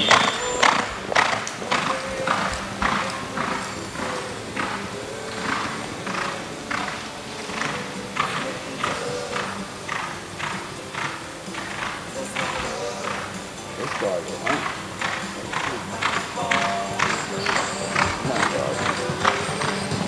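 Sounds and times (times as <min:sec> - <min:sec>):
faint music: 0:00.0 - 0:20.0
horse hoofbeats on dirt: 0:00.0 - 0:20.0.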